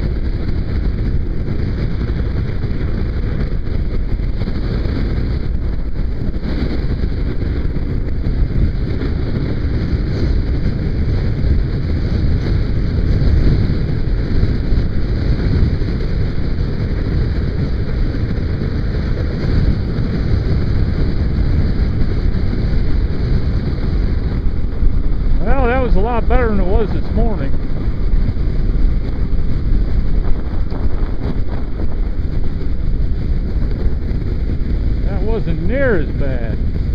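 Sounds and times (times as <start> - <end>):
motorcycle engine running: 0.0 - 36.9
wind rushing over microphone: 0.0 - 36.9.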